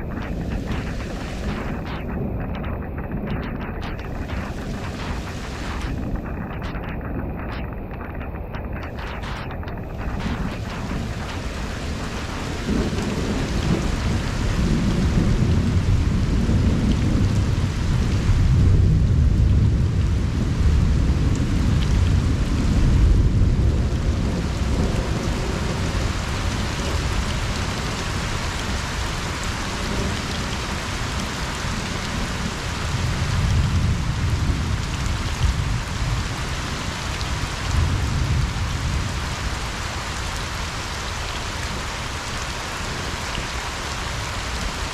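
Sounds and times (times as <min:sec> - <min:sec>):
low rumbles of thunder: 0:00.0 - 0:44.9
rain falling on a pond: 0:00.0 - 0:44.9.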